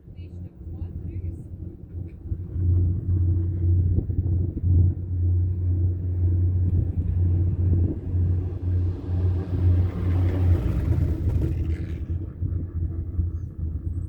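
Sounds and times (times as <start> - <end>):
low uneven chairlift rumble: 0.0 - 14.0.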